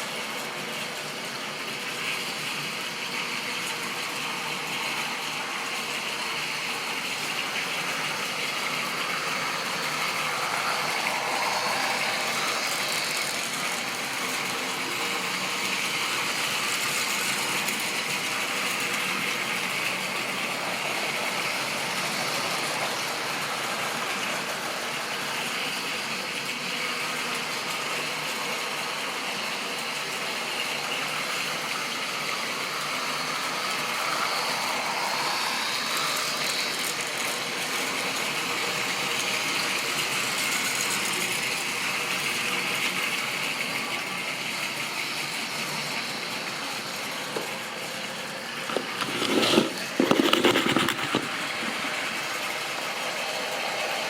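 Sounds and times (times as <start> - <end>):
model train whirring on track: 0.0 - 54.0.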